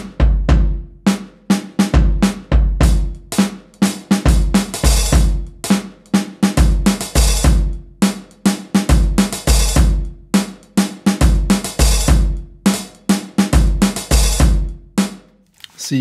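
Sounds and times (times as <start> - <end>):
drum kit breakbeat: 0.0 - 15.2.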